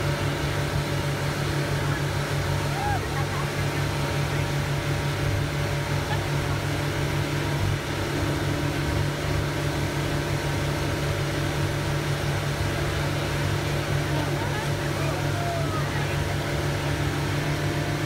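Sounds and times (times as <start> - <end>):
motorboat engine drone: 0.0 - 18.0
wind: 0.0 - 18.0.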